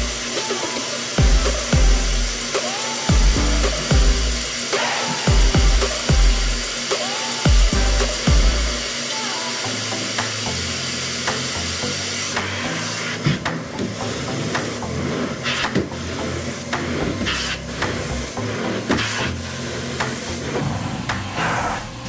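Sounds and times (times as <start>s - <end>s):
vacuum hose suction hiss: 0.0s - 20.6s.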